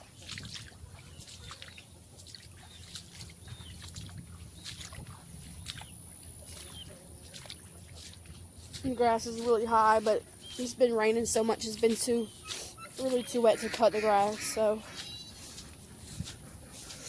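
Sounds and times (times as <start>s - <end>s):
footsteps splashing through water: 0.0s - 17.0s.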